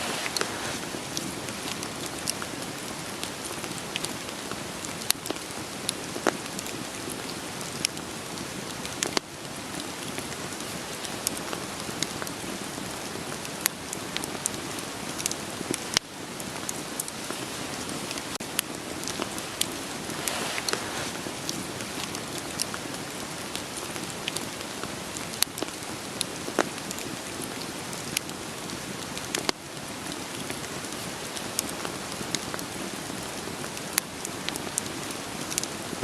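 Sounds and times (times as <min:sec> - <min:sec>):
steady rain: 0:00.0 - 0:36.0
wood fire crackling: 0:00.0 - 0:36.0.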